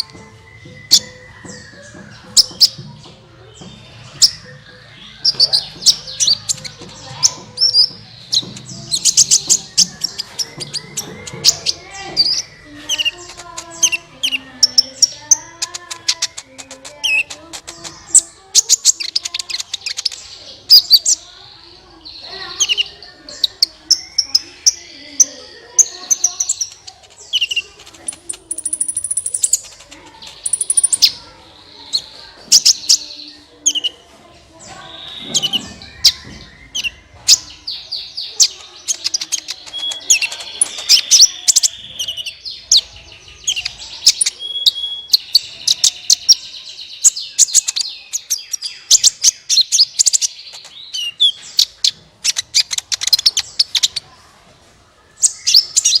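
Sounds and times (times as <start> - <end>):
bird high chirps and trills: 0.0 - 54.2, 55.2 - 56.0.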